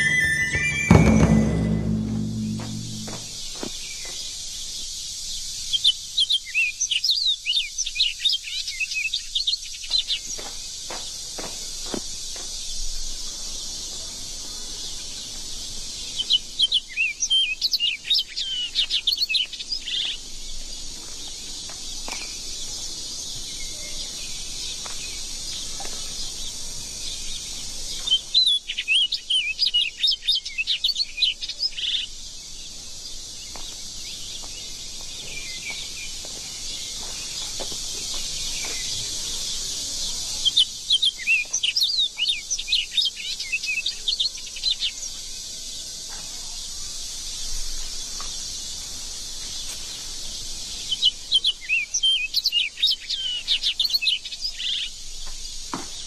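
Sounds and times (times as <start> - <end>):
high hiss of garden ambience: 3.1 - 56.0.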